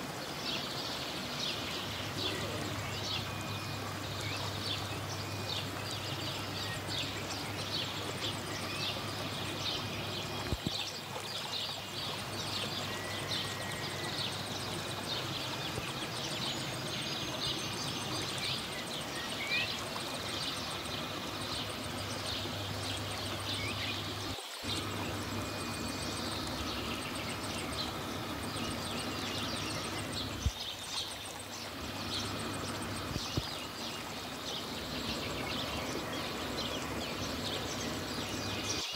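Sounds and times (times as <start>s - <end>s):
small birds chirping: 0.0s - 38.9s
aquarium air pumps humming: 1.0s - 38.9s.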